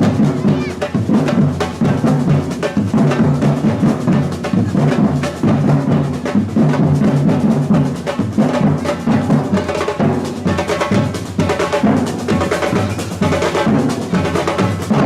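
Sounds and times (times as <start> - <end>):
samba drumming: 0.0 - 15.0.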